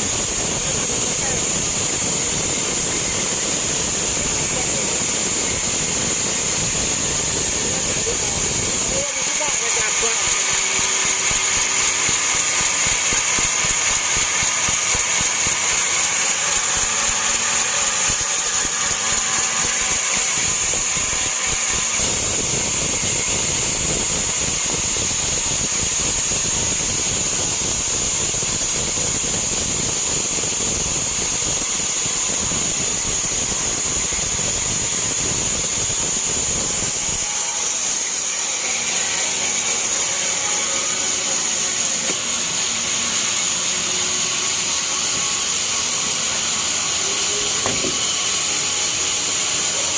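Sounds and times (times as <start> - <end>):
band saw cutting log: 0.0 - 49.9.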